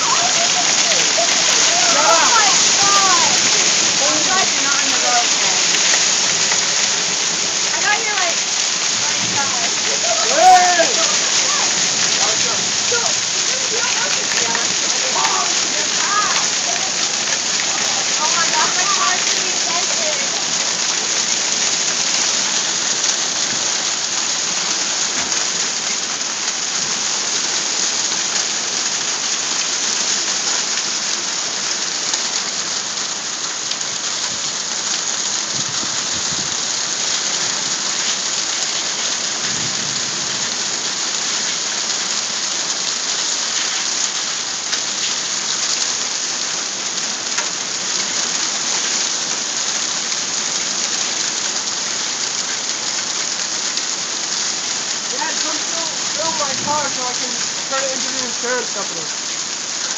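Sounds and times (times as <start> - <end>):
hail and rain pelting down: 0.0 - 59.9.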